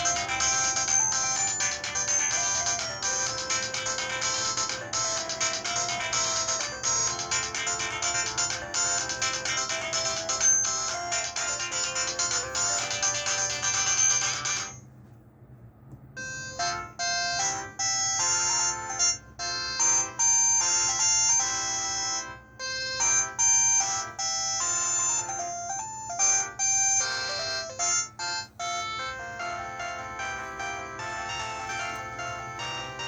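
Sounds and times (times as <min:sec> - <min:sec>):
electronic ringtone melodies: 0:00.0 - 0:14.8, 0:16.2 - 0:33.0.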